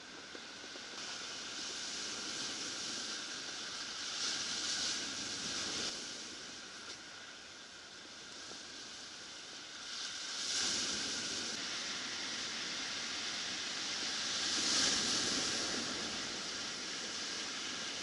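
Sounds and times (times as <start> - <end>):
waves washing up a cobble beach: 0.0 - 18.0.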